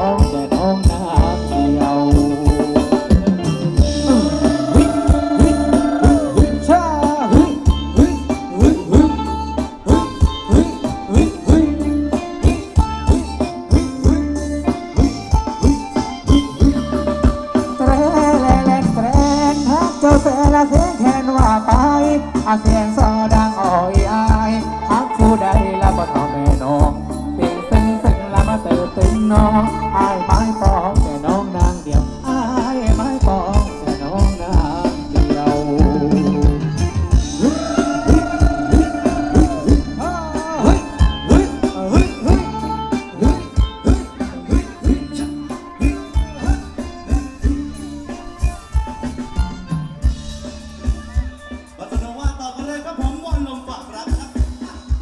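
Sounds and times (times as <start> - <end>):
melody with bending notes: 0.0 - 54.0
drums playing dance beat: 0.0 - 55.0.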